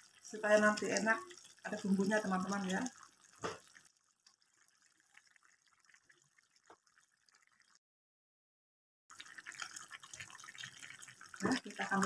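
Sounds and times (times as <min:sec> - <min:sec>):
faint bubbling in a wok: 0:00.0 - 0:07.8, 0:09.1 - 0:12.0.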